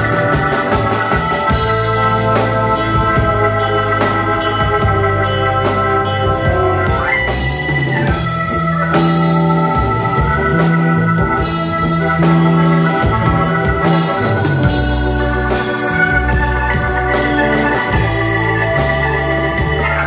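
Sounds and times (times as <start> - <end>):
bass guitar: 0.0 - 20.0
drum kit: 0.0 - 20.0
electric guitar: 0.0 - 20.0
organ sustained chords: 0.0 - 20.0.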